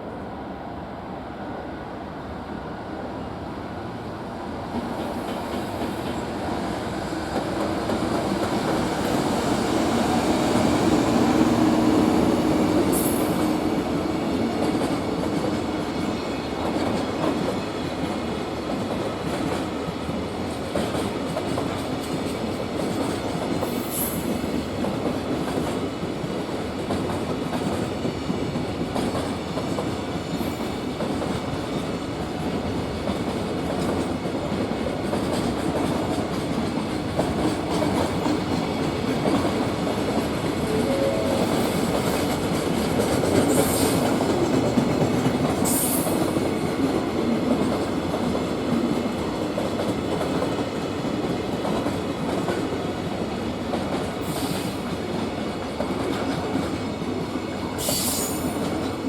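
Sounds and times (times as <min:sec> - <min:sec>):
freight train wheels clattering: 0:04.7 - 0:59.0.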